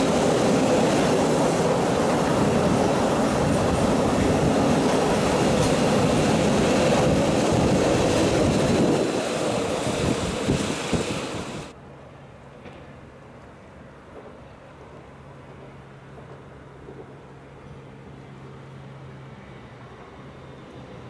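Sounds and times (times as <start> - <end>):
train wheels running on rails: 0.0 - 11.8, 12.4 - 21.0.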